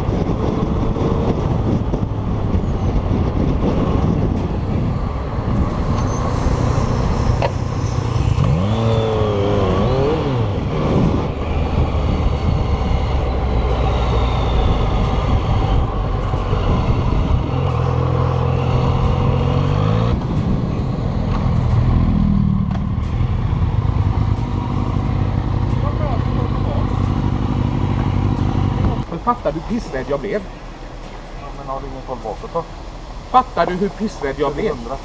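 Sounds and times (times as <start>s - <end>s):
motorcycle engine running: 0.0s - 35.0s
road and wind noise: 0.0s - 35.0s.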